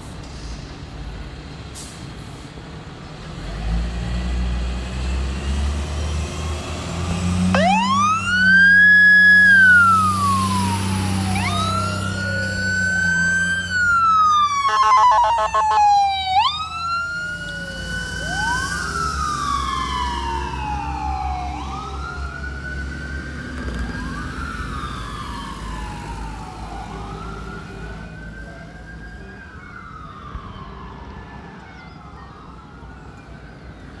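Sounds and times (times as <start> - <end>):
emergency sirens wailing: 5.2 - 34.0.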